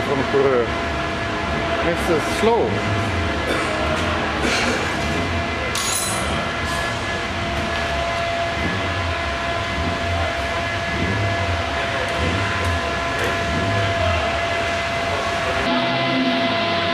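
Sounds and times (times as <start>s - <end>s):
engine running steadily: 0.0s - 16.9s.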